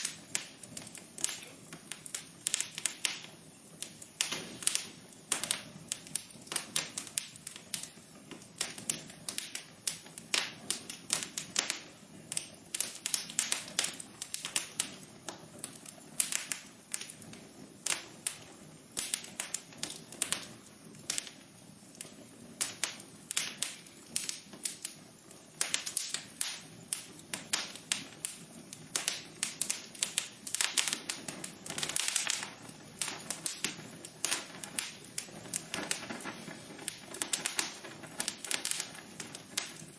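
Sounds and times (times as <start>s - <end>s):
hiss of burning fire: 0.0s - 39.9s
wood fire crackling and popping: 0.0s - 39.9s.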